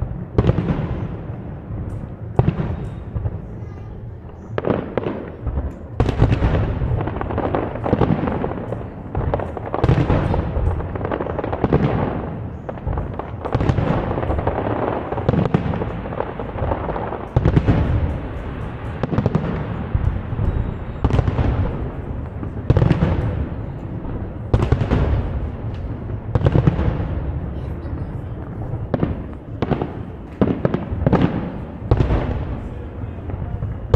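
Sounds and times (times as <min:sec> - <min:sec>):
fireworks bursting with echoes: 0:00.0 - 0:33.9.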